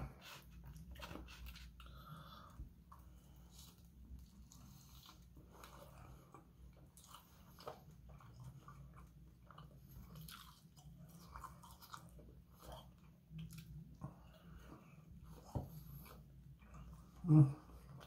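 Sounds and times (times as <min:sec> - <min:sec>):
faint wet chewing: 0:00.0 - 0:18.0
low steady hum: 0:00.0 - 0:18.0.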